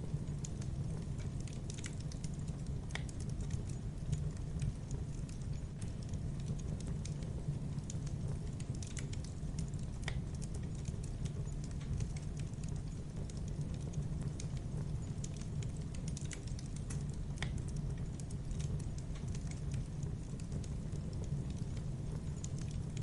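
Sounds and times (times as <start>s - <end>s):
low fire rumble: 0.0s - 23.0s
wood fire crackling and popping: 0.0s - 23.0s.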